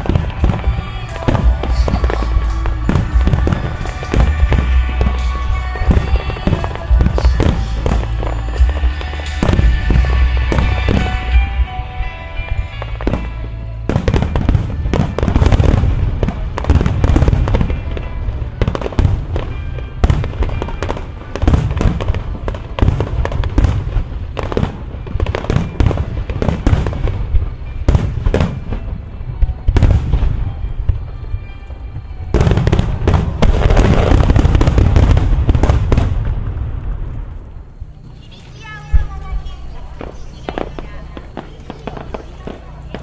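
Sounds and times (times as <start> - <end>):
fireworks bursting: 0.0 - 43.0
music soundtrack: 0.0 - 43.0.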